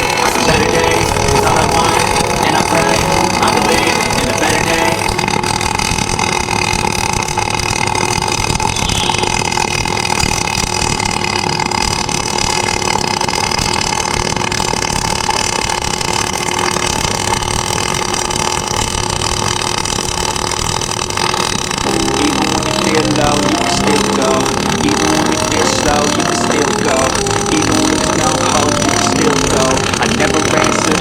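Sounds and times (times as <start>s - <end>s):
loud mechanical running noise: 0.0s - 31.0s.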